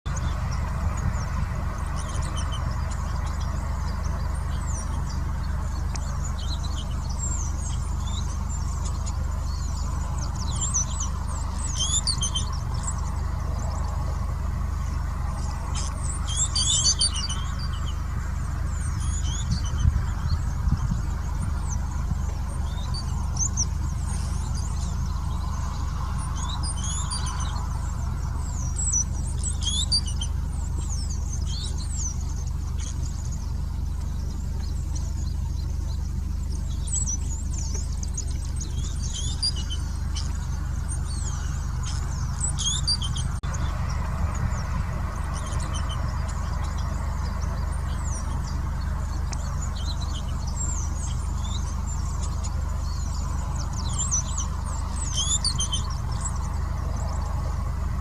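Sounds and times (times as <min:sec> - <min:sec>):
bird whistles and chirps: 0:00.1 - 0:14.0, 0:15.7 - 0:18.0, 0:18.7 - 0:43.7, 0:44.5 - 0:57.4
low rumble: 0:00.1 - 0:58.0.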